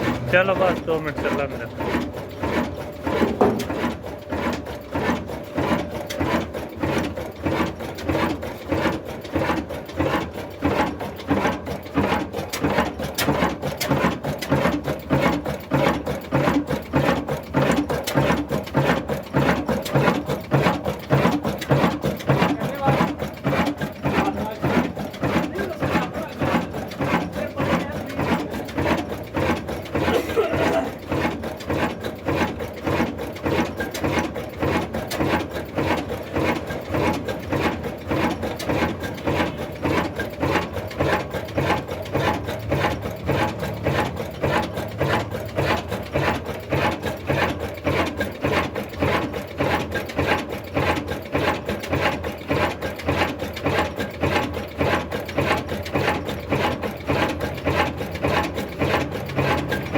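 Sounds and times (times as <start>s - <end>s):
diesel engine running rhythmically: 0.0s - 59.9s.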